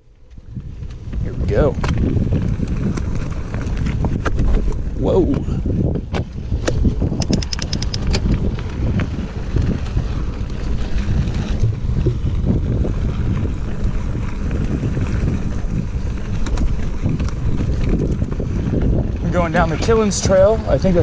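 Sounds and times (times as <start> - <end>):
bike tyres rattling over ground: 0.0 - 21.0
wind rushing over microphone: 0.0 - 21.0.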